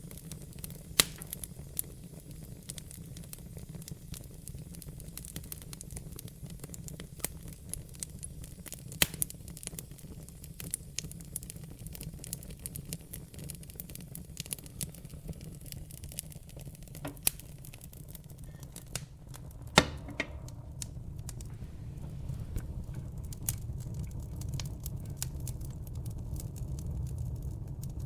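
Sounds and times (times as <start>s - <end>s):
fire crackling in a fireplace: 0.0s - 28.0s.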